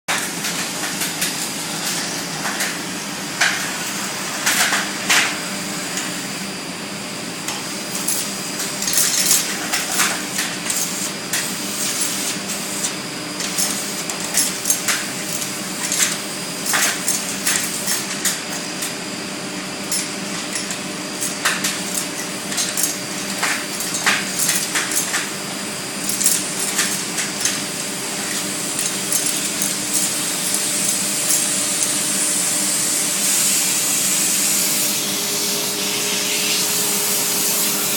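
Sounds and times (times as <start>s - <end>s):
vacuum cleaner running: 0.1s - 37.9s.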